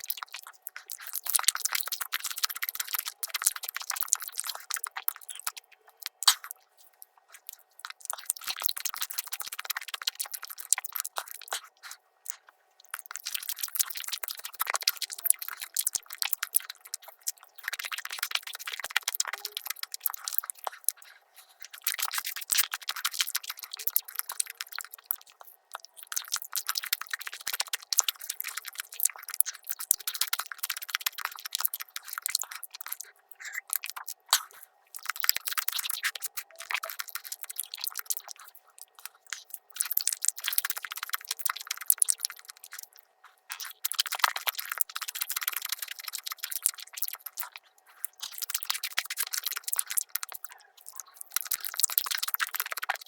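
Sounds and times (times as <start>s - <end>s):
chewing clicks and smacks: 0.0s - 53.0s.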